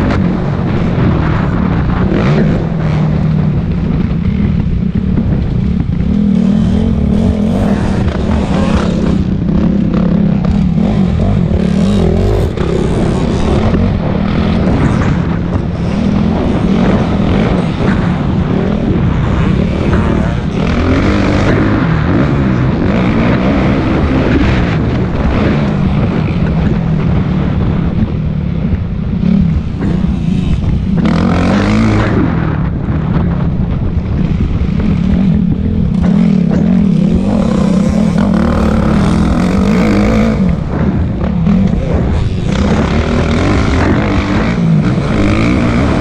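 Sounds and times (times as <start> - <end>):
motocross bike engine revving: 0.0 - 28.0, 29.0 - 33.3, 34.0 - 46.0.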